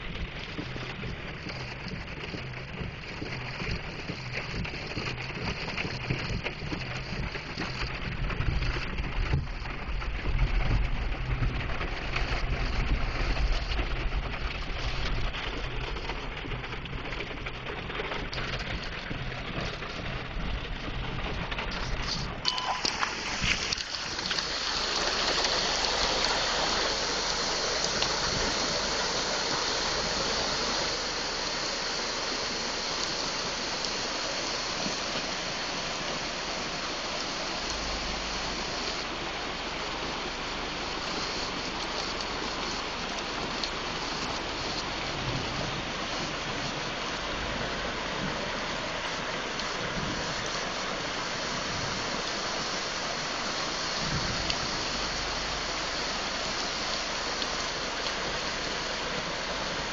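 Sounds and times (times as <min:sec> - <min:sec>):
floodwater rushing: 0:09.4 - 0:59.9.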